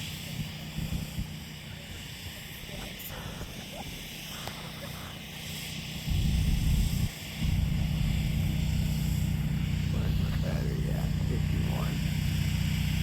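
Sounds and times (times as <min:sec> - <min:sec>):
nearby engine running: 0:00.0 - 0:13.0.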